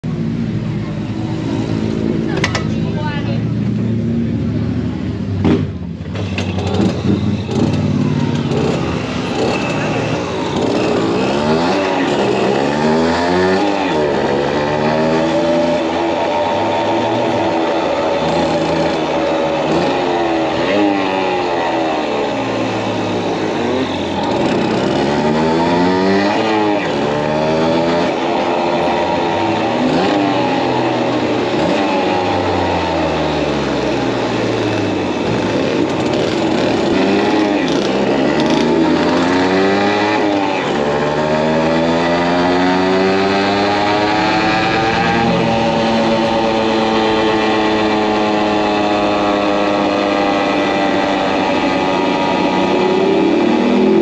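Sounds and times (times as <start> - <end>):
two-stroke motorcycle engine running: 0.0 - 54.0.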